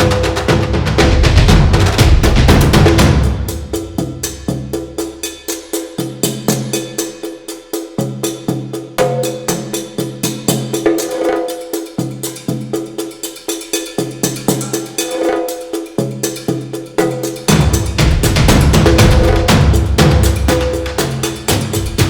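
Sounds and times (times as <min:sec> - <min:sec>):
percussive music with bass line: 0:00.0 - 0:22.0.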